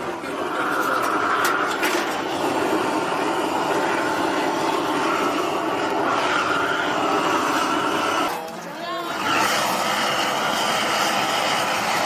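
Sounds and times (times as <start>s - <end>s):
gas torch burner rushing: 0.0s - 12.0s.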